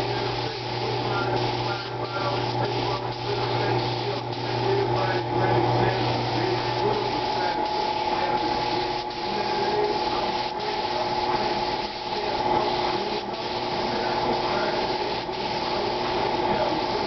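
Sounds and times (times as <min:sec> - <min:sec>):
motor humming: 0:00.0 - 0:17.0
paint spray gun hissing: 0:00.0 - 0:17.0.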